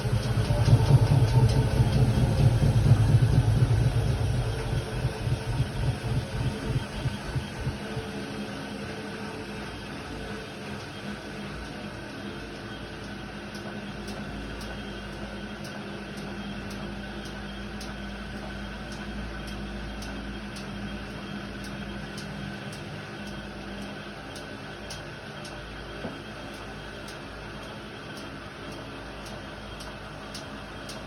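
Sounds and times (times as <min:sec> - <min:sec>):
washer-dryer humming: 0:00.0 - 0:31.0.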